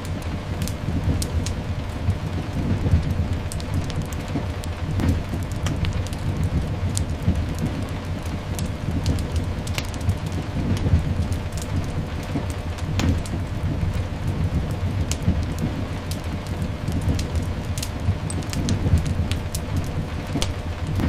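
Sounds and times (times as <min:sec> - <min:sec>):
fireplace crackles: 0:00.0 - 0:21.0
rain hiss: 0:00.0 - 0:21.0
distant thunder rumble: 0:00.3 - 0:21.0.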